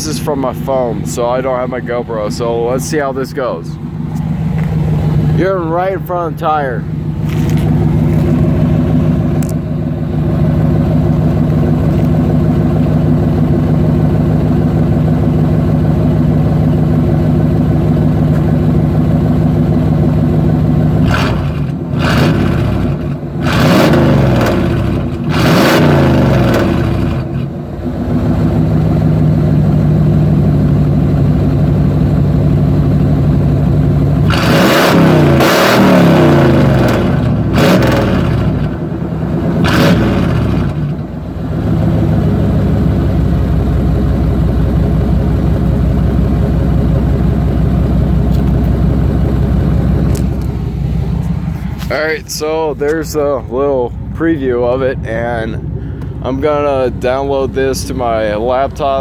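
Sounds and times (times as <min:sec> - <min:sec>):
truck engine idling and revving: 0:00.0 - 0:59.0.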